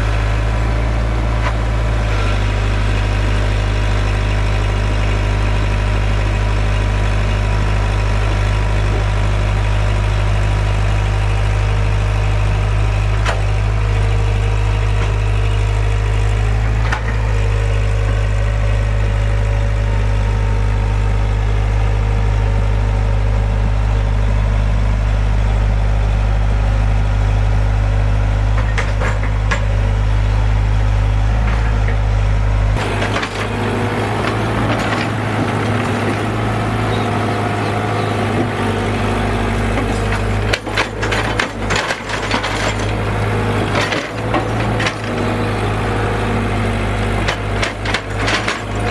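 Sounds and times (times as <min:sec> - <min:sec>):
excavator diesel engine droning: 0:00.0 - 0:48.9.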